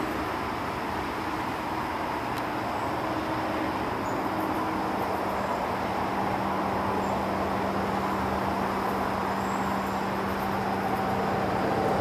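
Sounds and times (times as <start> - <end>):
distant road traffic roar: 0.0 - 12.0.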